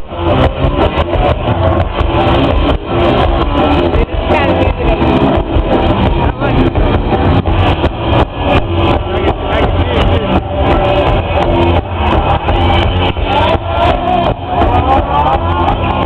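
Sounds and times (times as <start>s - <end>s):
loud distorted rock music: 0.0s - 16.0s.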